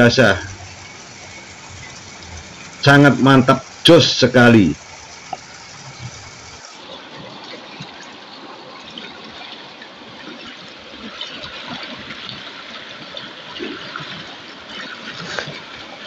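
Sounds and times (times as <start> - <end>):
river water gurgling over rocks: 0.0 - 16.0.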